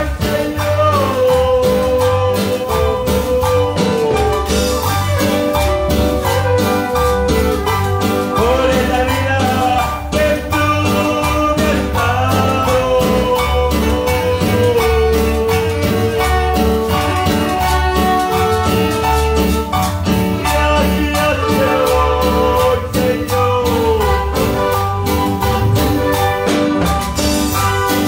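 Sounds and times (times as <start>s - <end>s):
live band playing worship music: 0.0s - 28.0s.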